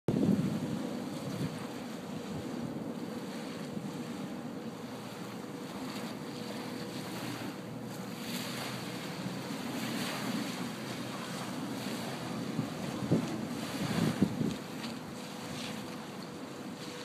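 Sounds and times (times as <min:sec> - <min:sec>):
small waves washing onto beach: 0:00.1 - 0:17.0
wind on microphone: 0:00.1 - 0:17.0.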